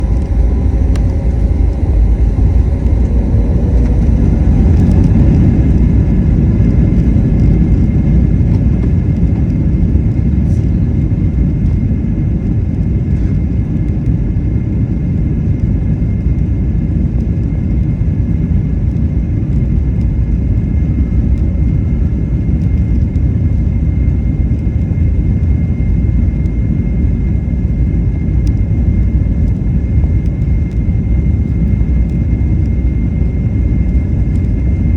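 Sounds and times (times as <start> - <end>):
faint engine whine: 0.0 - 34.9
jet engines rumbling: 0.0 - 34.9.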